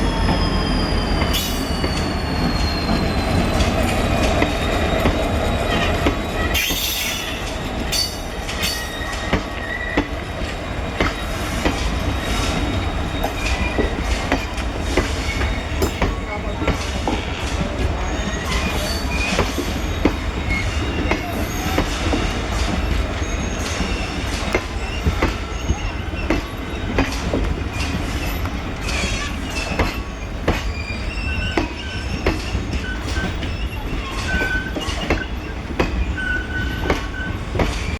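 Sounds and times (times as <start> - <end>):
high wheel squeals: 0.0 - 37.9
train rumbling on rails: 0.0 - 37.9.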